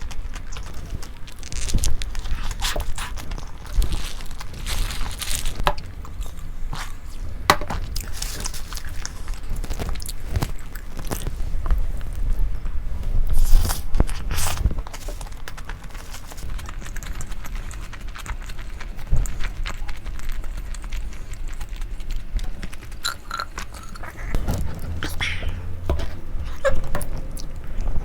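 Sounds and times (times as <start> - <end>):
person crunching and chewing: 0.0 - 28.0.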